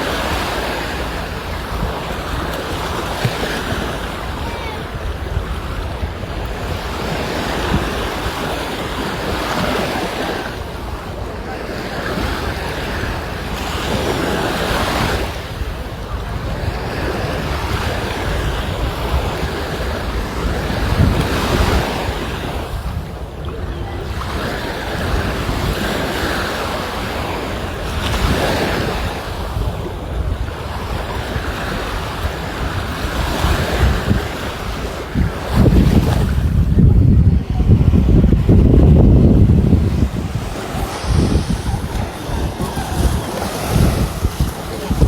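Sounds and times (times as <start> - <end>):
sea waves breaking on shore: 0.0 - 45.0
wind rumbling on microphone: 0.0 - 45.0.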